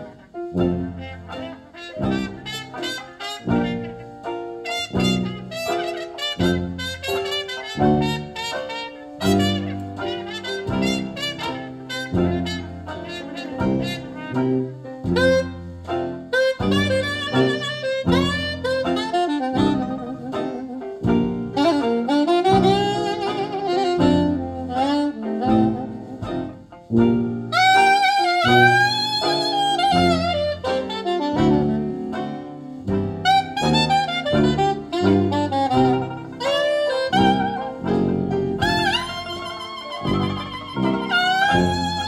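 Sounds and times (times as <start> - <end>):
brass section: 0.0 - 42.0
jazz saxophone lead: 0.0 - 42.0
low bass notes: 0.0 - 42.0.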